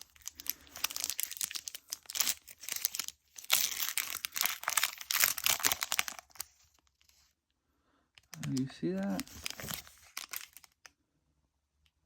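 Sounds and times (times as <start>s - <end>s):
foil wrapper crinkling: 0.0s - 7.2s, 8.3s - 10.9s.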